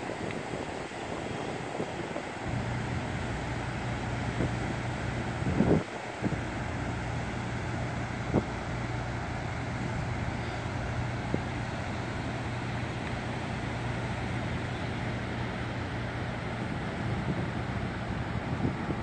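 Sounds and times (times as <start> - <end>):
low steady hum: 0.0 - 19.0
surf breaking on beach: 0.0 - 19.0
wind noise on microphone: 0.0 - 19.0.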